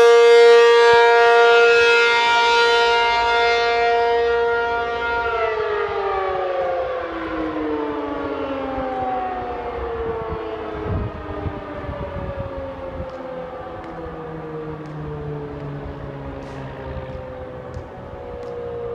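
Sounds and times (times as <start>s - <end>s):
warning siren winding down: 0.0s - 18.9s.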